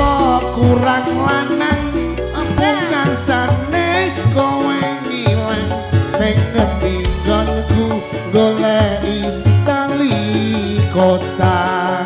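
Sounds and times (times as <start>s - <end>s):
live band playing pop music: 0.0s - 12.0s.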